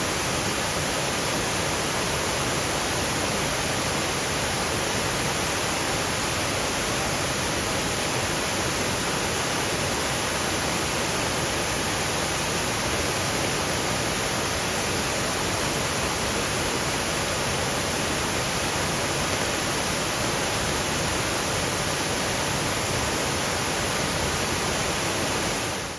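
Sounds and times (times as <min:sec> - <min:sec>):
light rain falling through trees: 0:00.0 - 0:25.9
waterfall rushing: 0:00.0 - 0:25.9.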